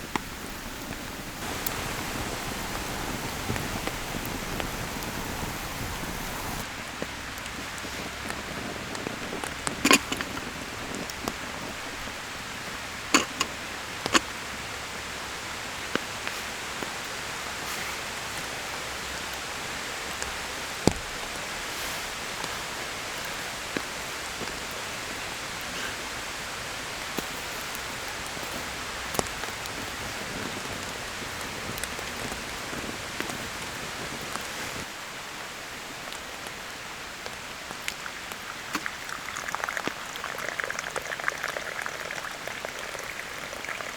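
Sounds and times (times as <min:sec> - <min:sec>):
steady rain hissing: 0:00.0 - 0:43.9.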